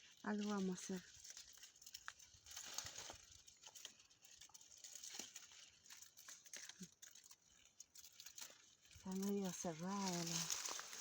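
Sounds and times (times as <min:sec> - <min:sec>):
dry plants rustling: 0:00.0 - 0:11.0.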